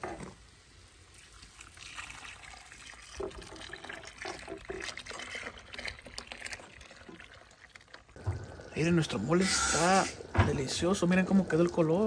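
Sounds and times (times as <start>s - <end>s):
sauce trickling and splashing in pot: 0.5s - 12.0s.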